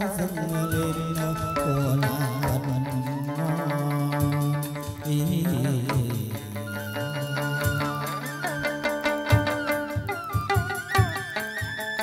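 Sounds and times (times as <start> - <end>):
person singing ornamented melody: 0.0 - 9.7
small ensemble playing: 0.0 - 12.0.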